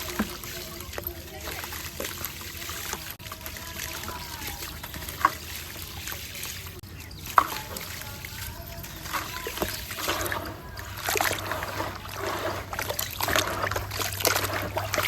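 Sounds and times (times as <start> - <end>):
concrete crackling in water: 0.0 - 15.0.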